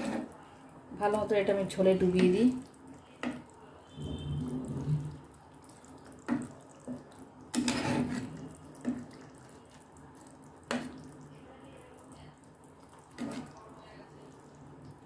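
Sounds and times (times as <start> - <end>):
liquid sloshing in a pan: 0.0 - 15.0.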